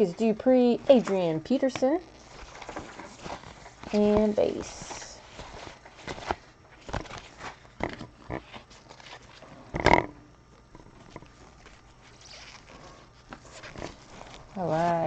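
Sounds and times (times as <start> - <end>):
cards clicking and rustling: 0.9 - 14.6.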